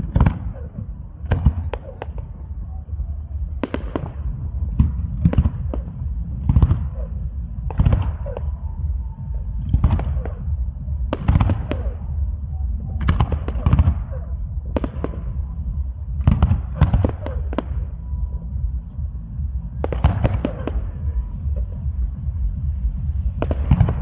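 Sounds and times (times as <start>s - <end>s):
deep rumble of booms: 0.0s - 24.0s.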